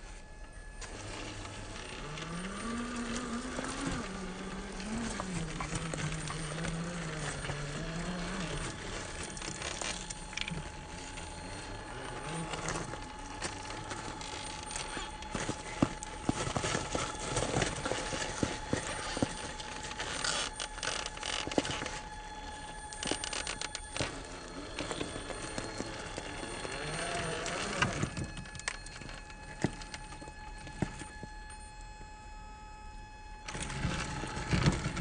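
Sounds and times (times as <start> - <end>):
electric motor whining: 0.0 - 35.0.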